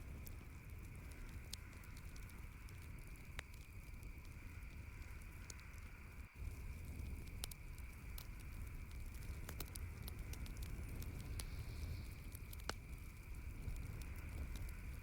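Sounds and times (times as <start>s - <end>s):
campfire crackling and popping: 0.0s - 15.0s
low rumble of burning fire: 0.0s - 15.0s.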